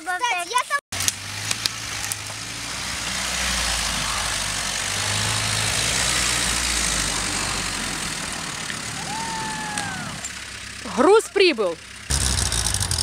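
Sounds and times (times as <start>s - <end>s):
van engine running under load: 1.0s - 13.0s.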